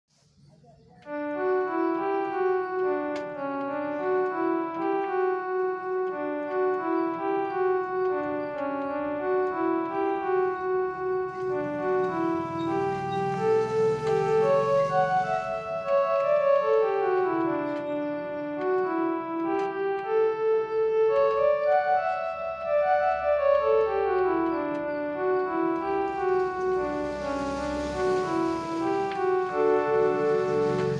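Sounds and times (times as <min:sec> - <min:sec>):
electronic keyboard melody: 0:01.0 - 0:30.9.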